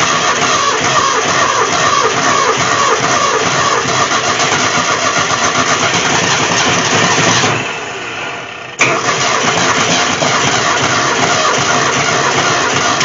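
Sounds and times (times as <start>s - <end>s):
car engine cranking: 0.0s - 8.0s, 8.7s - 13.0s.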